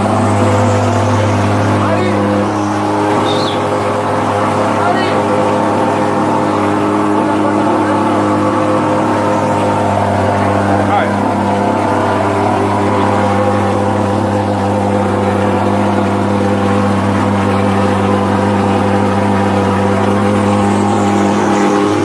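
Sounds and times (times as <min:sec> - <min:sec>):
fogging machine droning: 0:00.0 - 0:22.0.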